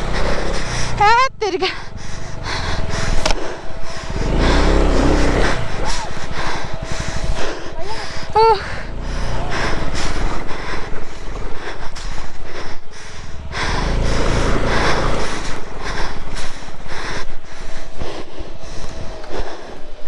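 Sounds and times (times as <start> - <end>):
motorcycle engine working hard: 0.0 - 20.0.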